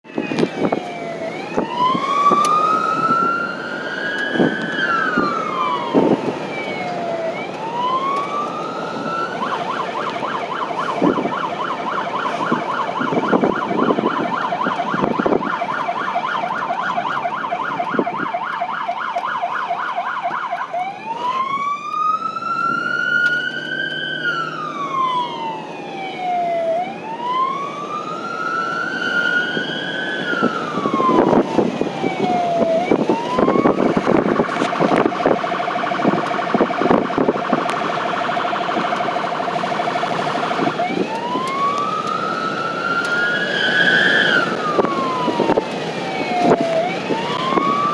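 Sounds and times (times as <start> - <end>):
electronic siren wailing and yelping: 0.1 - 47.9.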